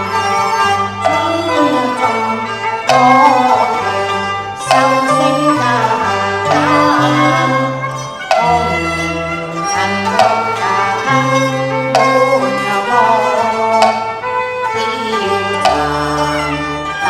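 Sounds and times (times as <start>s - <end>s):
bowed strings melody: 0.0s - 17.0s
sharp percussion beat: 0.0s - 17.0s.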